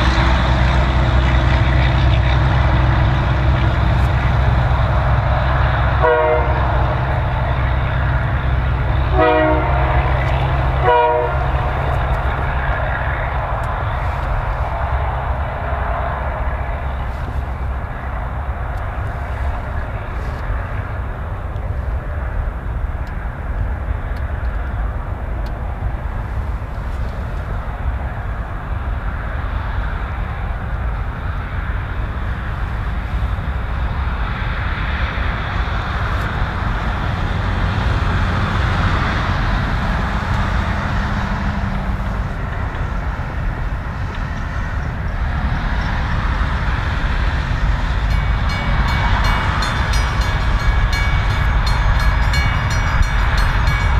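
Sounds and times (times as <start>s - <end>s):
diesel locomotive engine rumble: 0.0s - 53.9s.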